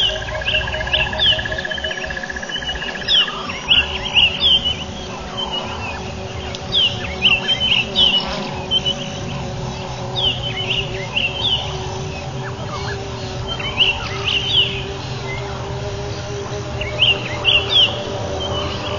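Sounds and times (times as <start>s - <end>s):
birds chirping: 0.0s - 18.9s
faint hum: 0.0s - 18.9s
fast pulsing trill: 0.0s - 18.9s.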